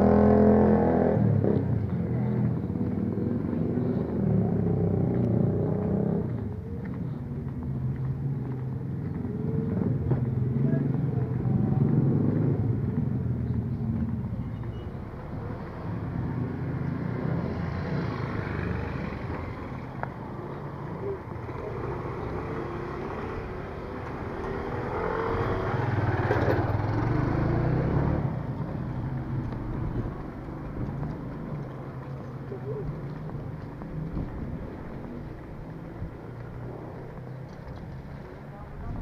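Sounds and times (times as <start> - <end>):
motorcycles passing: 0.0 - 39.0
vehicle engines running: 0.0 - 39.0.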